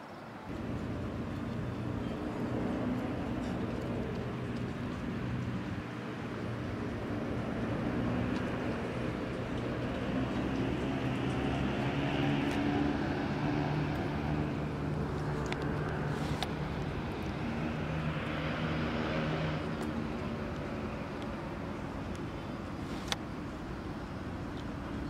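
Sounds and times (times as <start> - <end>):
city road traffic: 0.0 - 25.0.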